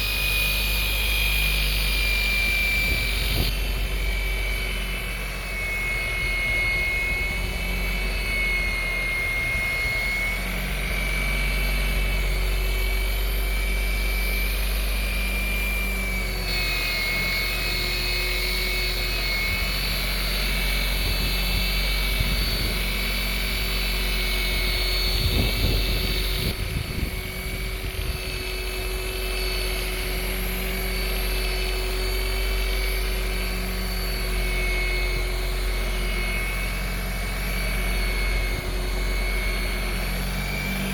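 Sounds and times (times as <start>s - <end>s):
rotary buffer motor whine: 0.0s - 40.9s.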